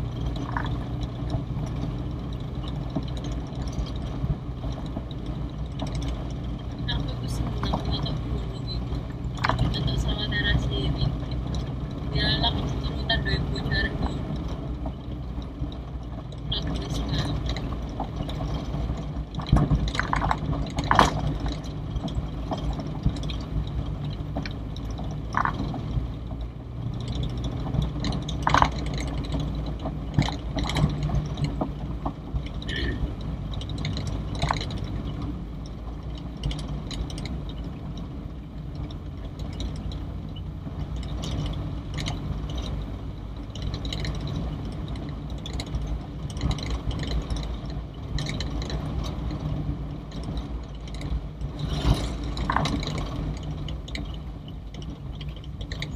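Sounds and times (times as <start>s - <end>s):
car engine hum: 0.0s - 55.9s
car knocks and rattles: 0.0s - 55.9s.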